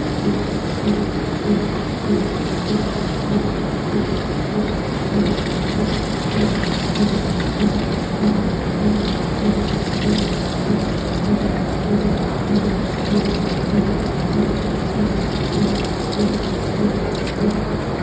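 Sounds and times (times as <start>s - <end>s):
low pulsing hum: 0.0s - 18.0s.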